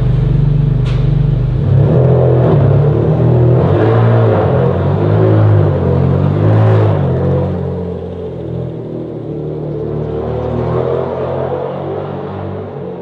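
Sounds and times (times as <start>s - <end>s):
loud car engine revving: 0.0s - 13.0s.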